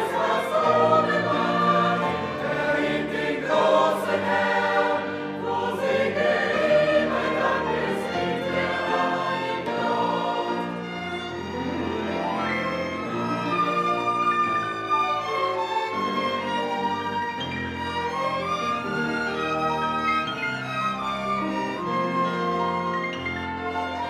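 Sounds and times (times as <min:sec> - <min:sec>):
choir singing: 0:00.0 - 0:24.0
orchestral accompaniment: 0:00.0 - 0:24.0.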